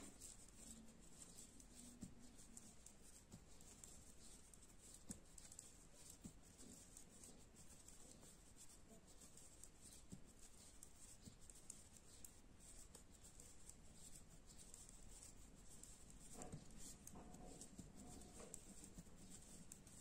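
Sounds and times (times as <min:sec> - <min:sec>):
knitting needles ticking and scraping: 0:00.0 - 0:20.0.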